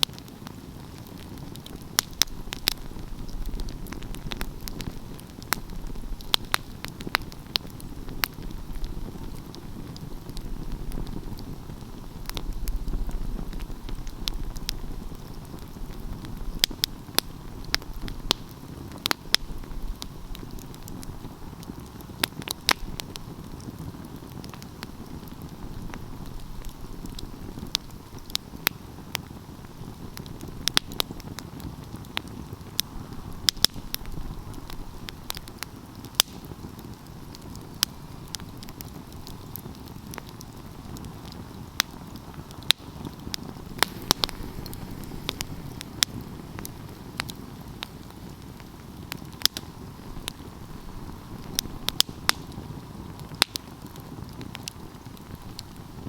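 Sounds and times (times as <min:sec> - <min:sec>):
burning logs crackling and popping: 0:00.0 - 0:56.0
flames rushing: 0:00.0 - 0:56.0.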